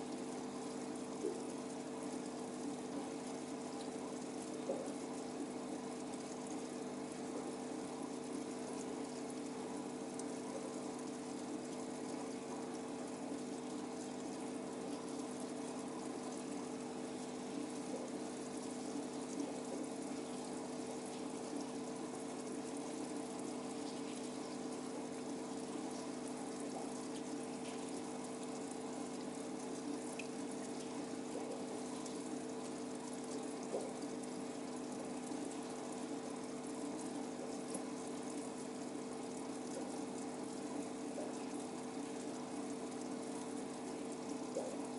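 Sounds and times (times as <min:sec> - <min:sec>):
aquarium pump hum: 0:00.0 - 0:44.9
water bubbling and trickling: 0:00.0 - 0:44.9.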